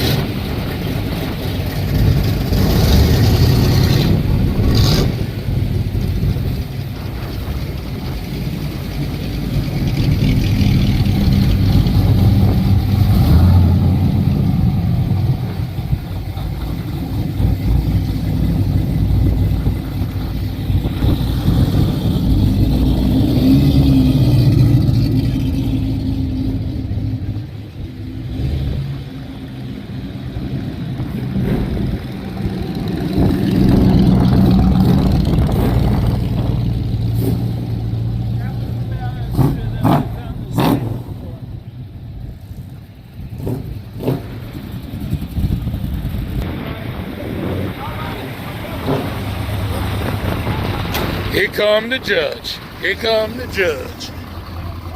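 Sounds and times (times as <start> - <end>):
low engine note with revving: 0.0 - 51.6, 52.2 - 54.9
car engines passing: 0.0 - 54.9.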